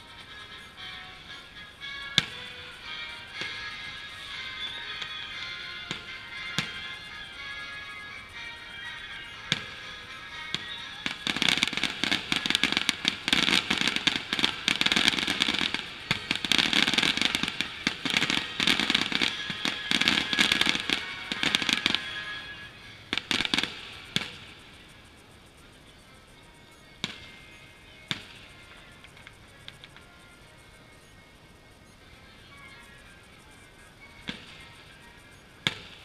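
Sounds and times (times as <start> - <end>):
firework bangs: 0.0 - 8.6, 9.2 - 25.0, 27.0 - 30.2, 34.2 - 36.0
fireworks crackling: 0.0 - 36.0.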